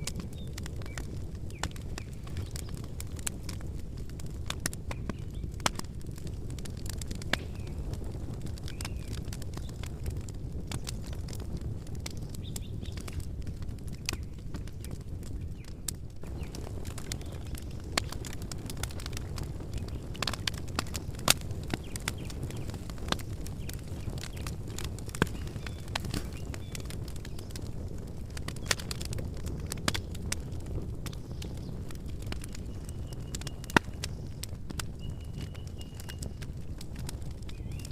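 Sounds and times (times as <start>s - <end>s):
campfire crackling and popping: 0.0s - 37.9s
low rumble of flames: 0.0s - 37.9s.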